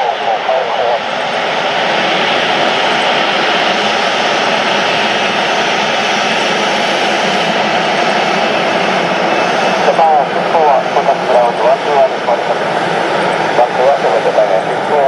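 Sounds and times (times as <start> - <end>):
aircraft engines roaring: 0.0 - 15.0.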